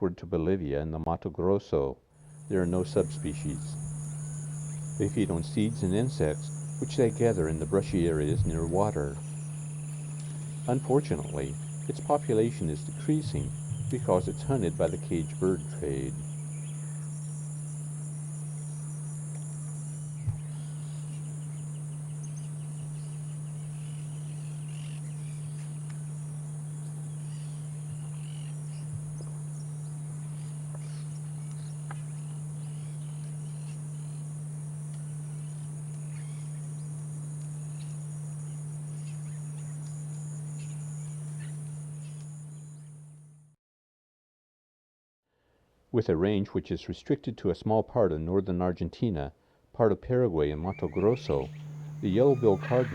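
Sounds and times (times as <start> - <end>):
low steady hum: 2.2 - 43.4, 50.4 - 52.9
faint bird chirps: 2.3 - 43.0, 50.7 - 52.9
high insect trilling: 2.3 - 43.1, 50.7 - 52.9.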